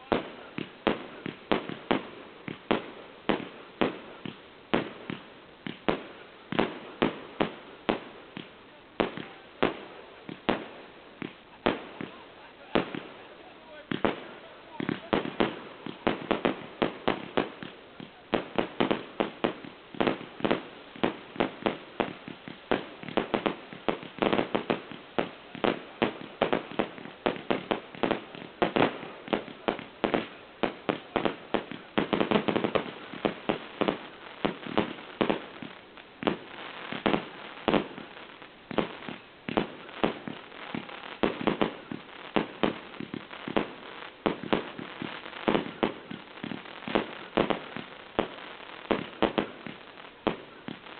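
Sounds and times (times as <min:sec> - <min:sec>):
fireworks bursting and banging: 0:00.0 - 0:50.9.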